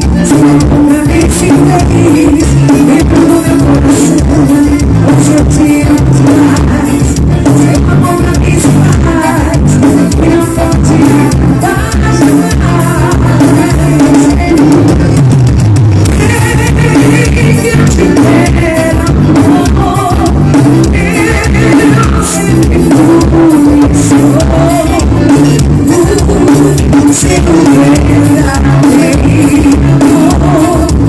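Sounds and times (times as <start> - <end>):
loud song through car speakers: 0.0 - 31.0.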